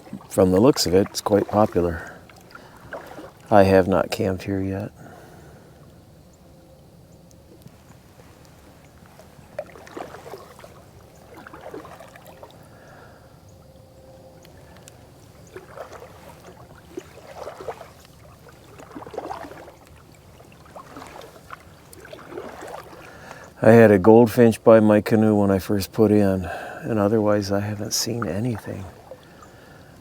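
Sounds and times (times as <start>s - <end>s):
paddle splashing water: 0.0s - 6.0s, 7.2s - 13.4s, 14.3s - 30.0s.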